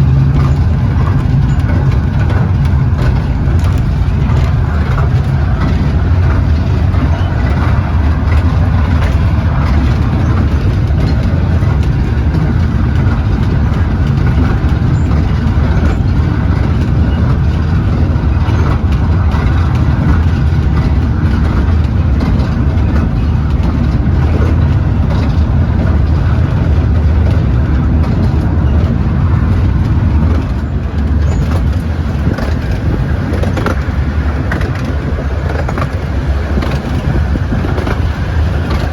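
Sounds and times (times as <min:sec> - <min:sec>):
miniature train rumbling on track: 0:00.0 - 0:38.9.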